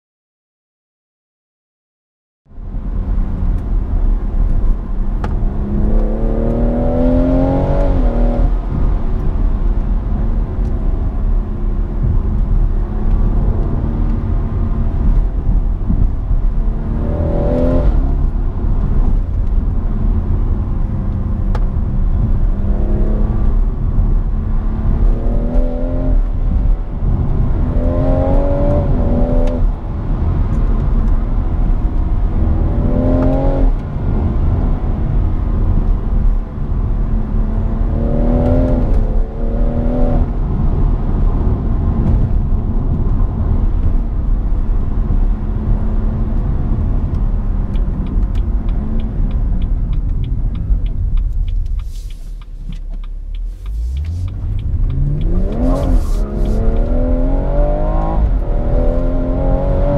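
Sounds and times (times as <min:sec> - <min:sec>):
road and tyre rumble: 0:02.4 - 0:59.9
car engine accelerating: 0:02.5 - 0:59.9.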